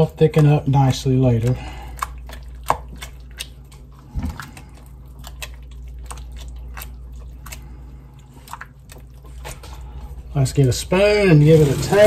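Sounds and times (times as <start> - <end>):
spoon stirring wet food in metal bowl: 0.0 - 12.0
steady low hum: 0.0 - 12.0.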